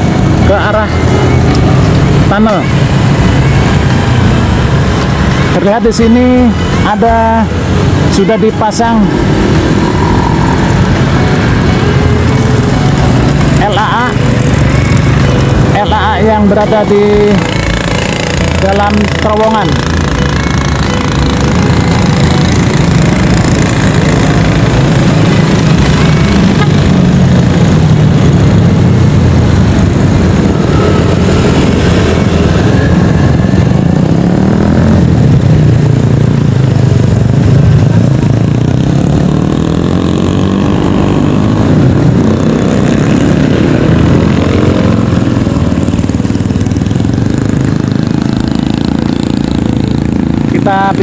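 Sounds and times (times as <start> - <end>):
engines humming loudly: 0.0 - 51.0.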